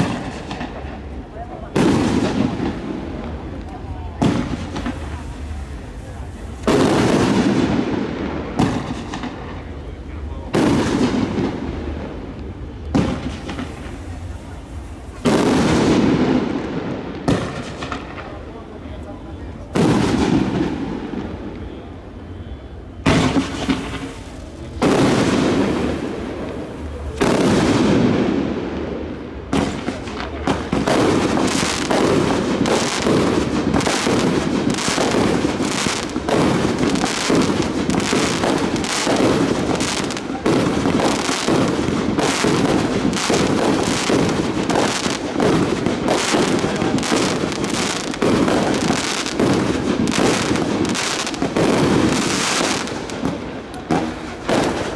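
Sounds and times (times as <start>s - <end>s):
rapid barrage of firework bangs: 0.0s - 21.9s, 23.0s - 54.9s
firework booms: 0.0s - 54.9s.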